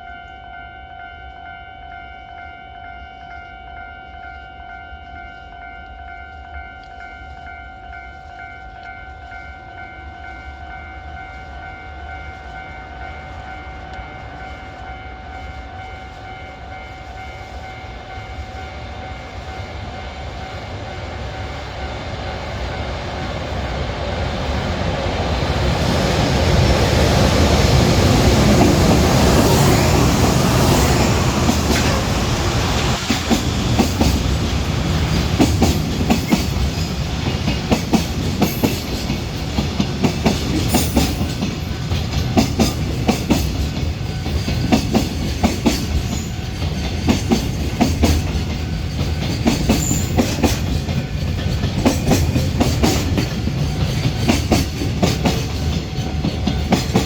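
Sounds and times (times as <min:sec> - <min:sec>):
locomotive passing with rush: 0:10.5 - 0:57.0
train wheels clicking over rail joints: 0:10.7 - 0:57.0.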